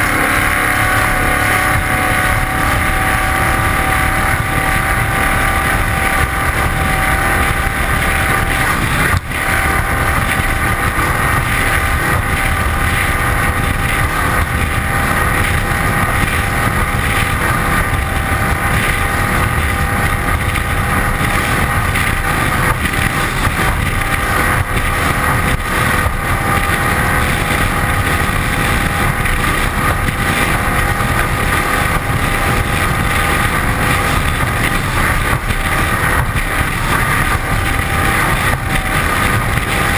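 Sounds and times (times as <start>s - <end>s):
speedboat engine roaring: 0.0s - 39.9s
water rushing along hull: 0.0s - 39.9s.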